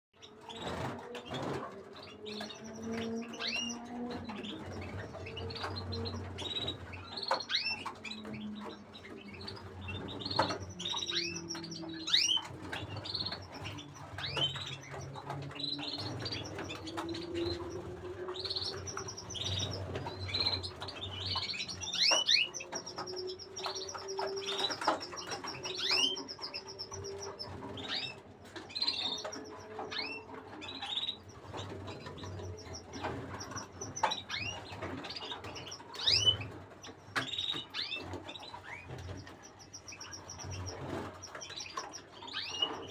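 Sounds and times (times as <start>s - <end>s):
canaries chirping and trilling: 0.2s - 42.9s.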